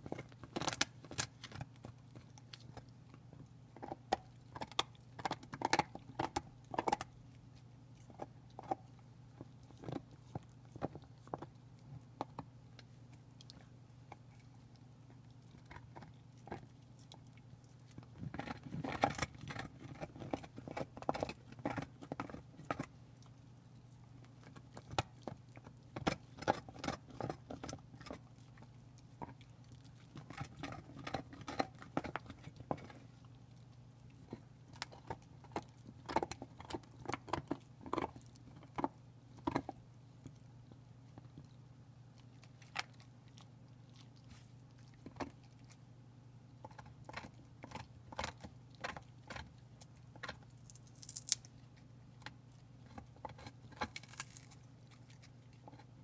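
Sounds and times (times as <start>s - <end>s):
dog gnawing bone: 0.0s - 45.9s, 46.5s - 56.0s.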